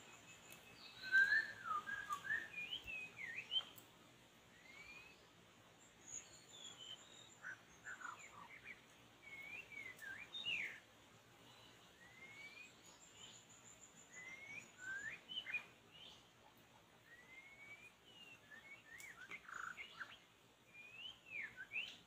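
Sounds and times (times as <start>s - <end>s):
bird whistling song: 0.0s - 3.8s, 4.5s - 5.3s, 6.0s - 10.8s, 11.6s - 16.3s, 17.0s - 22.0s.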